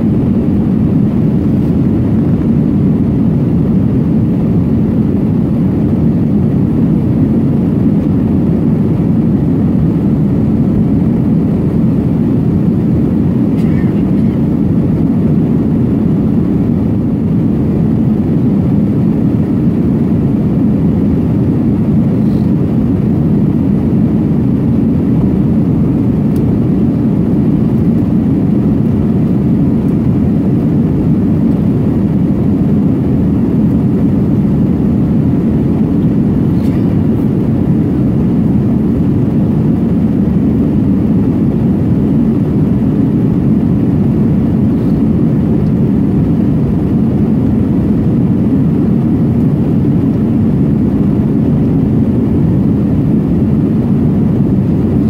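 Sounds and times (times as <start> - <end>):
airflow over fuselage: 0.0 - 55.0
jet engines rumbling: 0.0 - 55.0.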